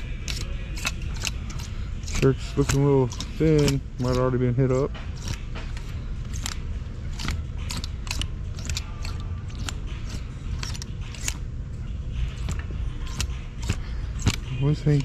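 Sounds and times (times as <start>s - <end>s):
clothes hangers clicking on rack: 0.0s - 11.4s, 12.2s - 15.0s.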